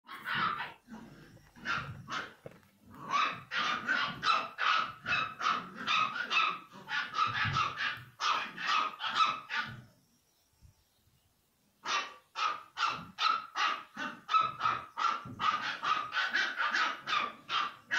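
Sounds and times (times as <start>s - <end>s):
puppies yelping: 0.1s - 9.9s, 11.8s - 17.9s.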